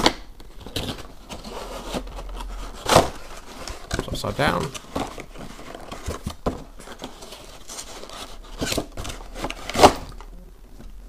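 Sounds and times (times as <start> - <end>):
cardboard rubbing and scraping: 0.8 - 10.0.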